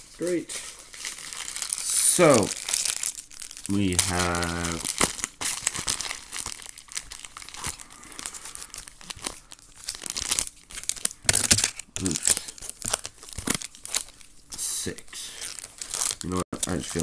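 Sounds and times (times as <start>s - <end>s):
foil packs crinkling: 0.0s - 17.0s.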